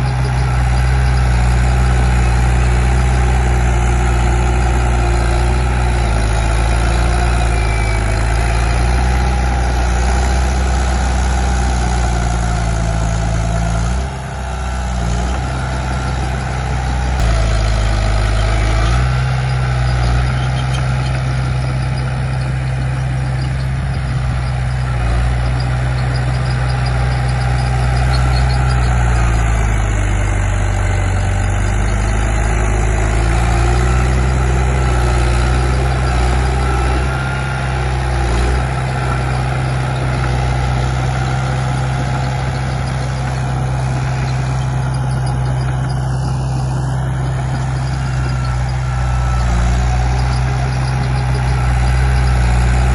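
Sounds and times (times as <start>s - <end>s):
bulldozer diesel engine: 0.0s - 52.9s.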